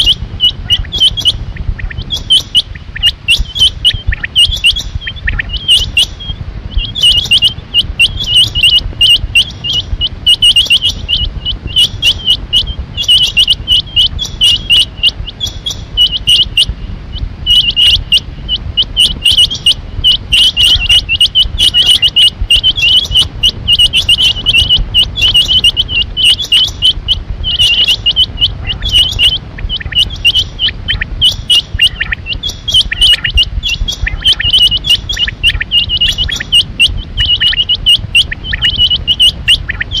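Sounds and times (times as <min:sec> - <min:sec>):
low steady rumble: 0:00.0 - 0:40.0
quail calling with whistled notes: 0:00.0 - 0:40.0.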